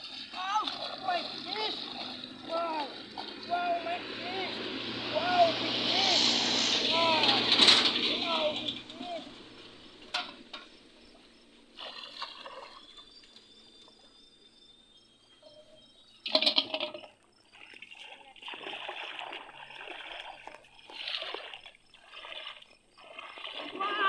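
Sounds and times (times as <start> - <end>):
water splashing and trickling: 0.0 - 14.1, 16.2 - 24.0.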